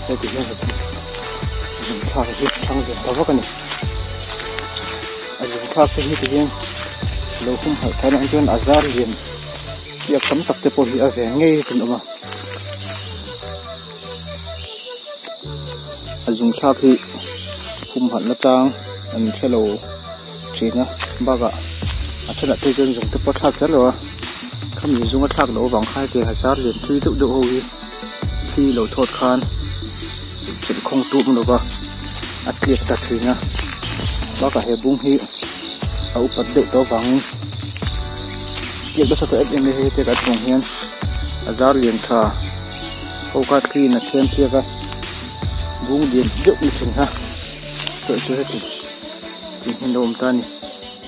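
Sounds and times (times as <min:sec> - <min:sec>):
high-pitched insect drone: 0:00.0 - 0:51.0.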